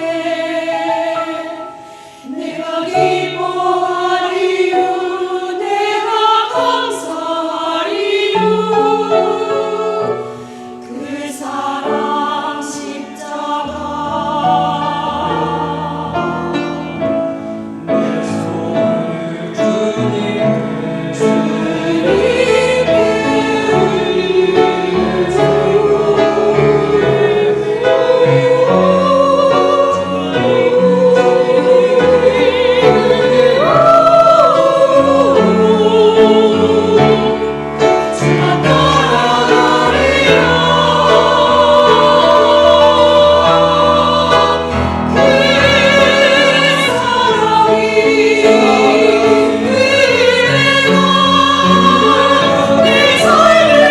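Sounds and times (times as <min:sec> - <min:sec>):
choir singing in parts: 0:00.0 - 0:53.9.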